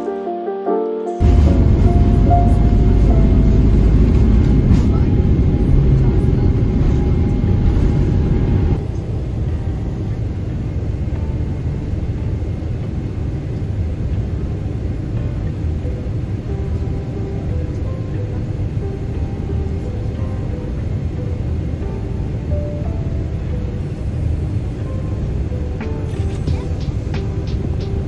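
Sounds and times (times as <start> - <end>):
jet engine cabin rumble: 1.2 - 28.0.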